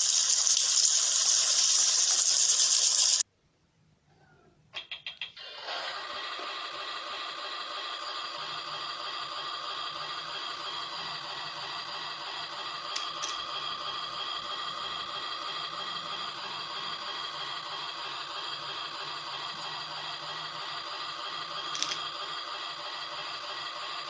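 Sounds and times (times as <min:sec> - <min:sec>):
toy speaker hissing: 0:00.0 - 0:03.2, 0:05.4 - 0:24.0.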